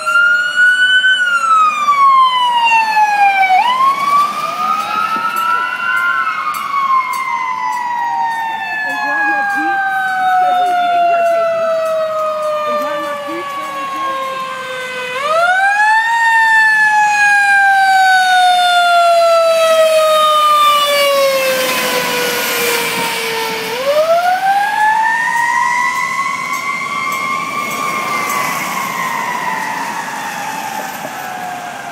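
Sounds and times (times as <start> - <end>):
fire truck siren wailing: 0.0 - 31.9
passing truck noise: 0.0 - 31.9.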